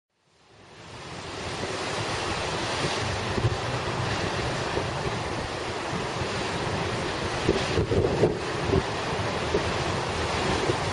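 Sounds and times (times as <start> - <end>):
waves crashing on rocky shore: 0.3 - 10.9
wind buffeting microphone: 0.8 - 10.9.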